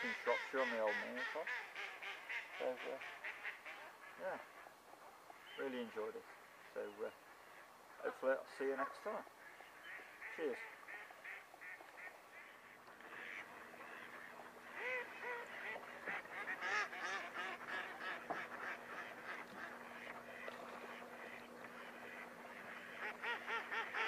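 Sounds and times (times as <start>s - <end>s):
waterfowl honking and quacking: 0.0s - 24.0s
faint hum: 1.6s - 24.0s.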